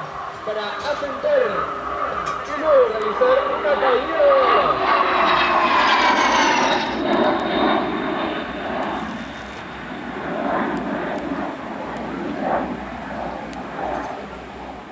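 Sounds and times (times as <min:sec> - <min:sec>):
jet aircraft passing: 0:00.0 - 0:14.9.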